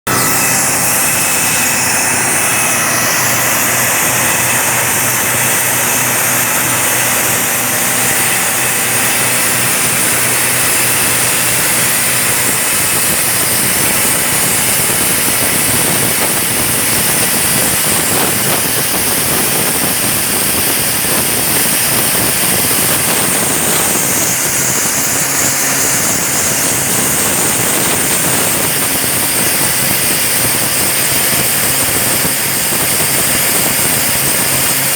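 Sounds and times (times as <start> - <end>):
drill rig engine drone: 0.0 - 34.9.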